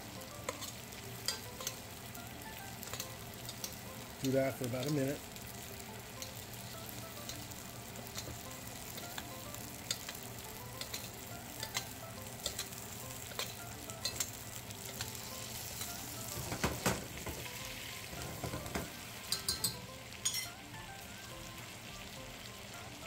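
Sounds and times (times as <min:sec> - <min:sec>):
steak sizzling in butter: 0:00.0 - 0:23.0.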